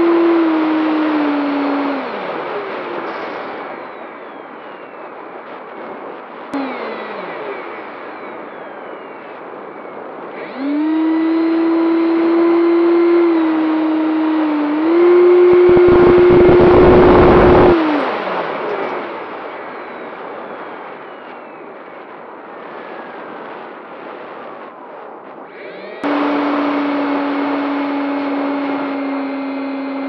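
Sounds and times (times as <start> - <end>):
electric motor and propeller whine: 0.0 - 22.0, 22.6 - 30.0
wind buffeting microphone: 0.0 - 30.0.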